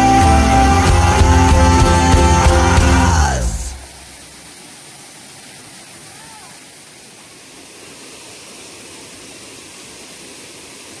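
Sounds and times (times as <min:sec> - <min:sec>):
waterfall and stream rushing: 0:00.0 - 0:11.0.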